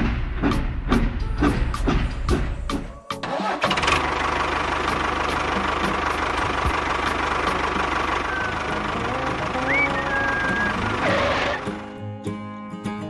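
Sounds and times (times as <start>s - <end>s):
engine starting and chugging: 0.0s - 11.9s.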